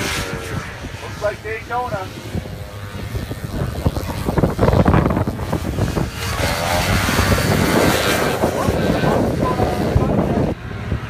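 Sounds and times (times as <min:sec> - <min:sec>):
snowmobiles racing past: 0:00.0 - 0:11.0.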